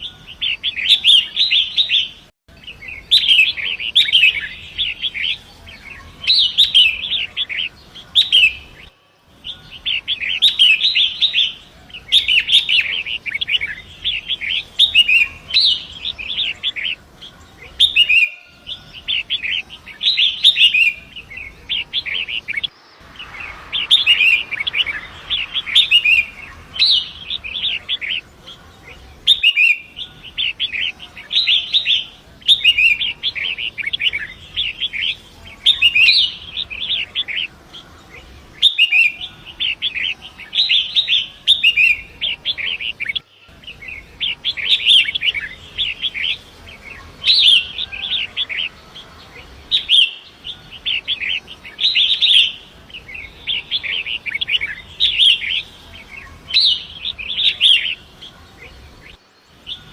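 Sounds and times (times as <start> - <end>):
bird chattering song: 0.0 - 59.9.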